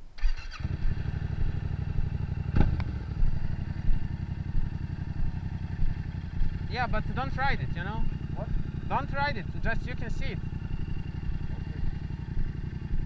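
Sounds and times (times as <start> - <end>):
motorcycle engine starting and idling: 0.2 - 13.0.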